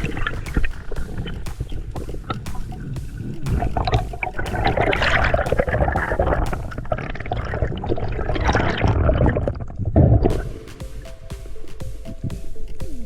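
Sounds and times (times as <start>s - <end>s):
water gurgling and sloshing: 0.0s - 13.0s.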